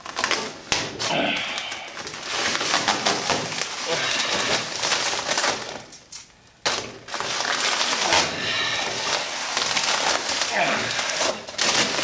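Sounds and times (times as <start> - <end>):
vinyl film rustling and crinkling: 0.0 - 12.0.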